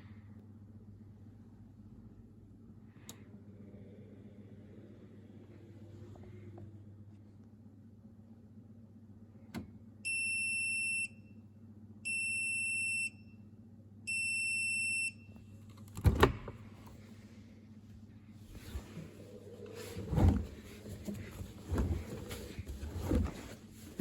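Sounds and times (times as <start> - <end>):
faint low hum: 0.0 - 14.4, 15.0 - 24.0.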